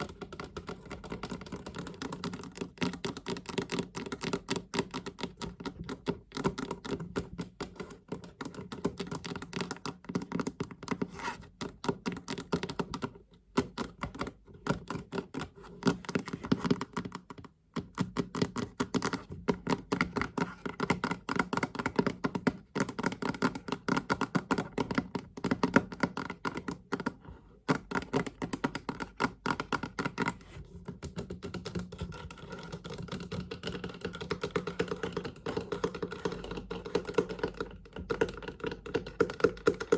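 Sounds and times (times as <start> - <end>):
fast tapping on a chest: 0.0 - 39.9.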